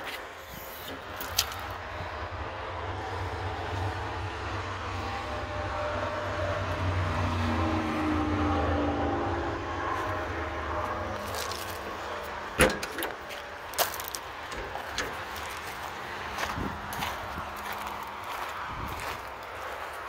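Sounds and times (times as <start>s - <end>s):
low vehicle hum: 0.2s - 20.0s.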